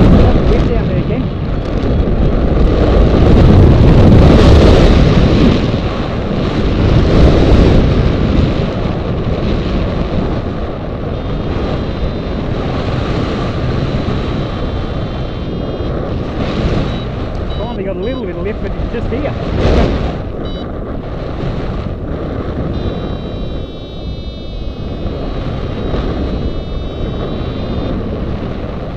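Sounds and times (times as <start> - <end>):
wind rushing over microphone: 0.0 - 28.9.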